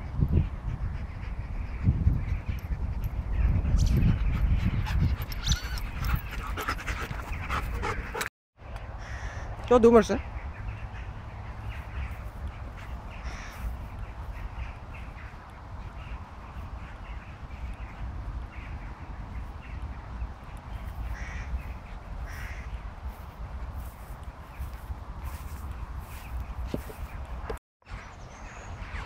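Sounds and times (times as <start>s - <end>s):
low wind rumble on microphone: 0.0s - 9.6s, 10.2s - 29.0s.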